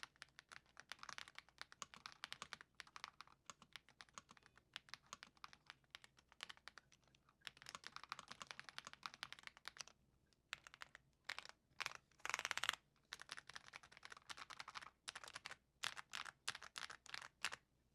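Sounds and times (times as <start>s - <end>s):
typing on mechanical keyboard: 0.0s - 9.9s, 10.5s - 17.6s.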